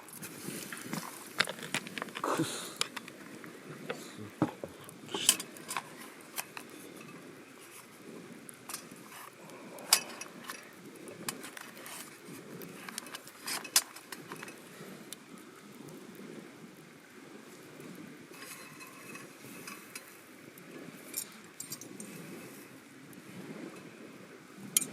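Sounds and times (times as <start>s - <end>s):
sharp cracks of burning wood: 0.0s - 16.2s, 17.4s - 24.0s
campfire rustling: 0.0s - 24.9s.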